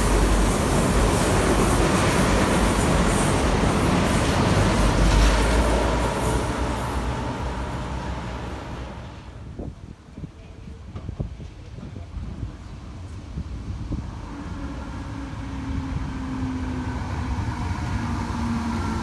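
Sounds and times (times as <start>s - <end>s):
diesel train engine and wheels: 0.0s - 19.0s.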